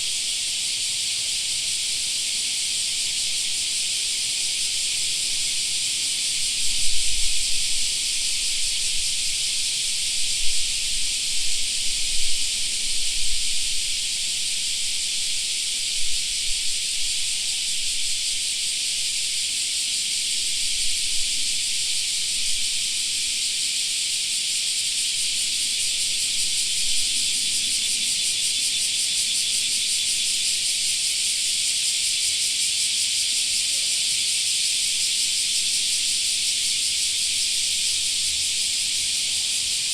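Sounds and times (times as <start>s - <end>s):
cicadas singing: 0.0s - 39.9s.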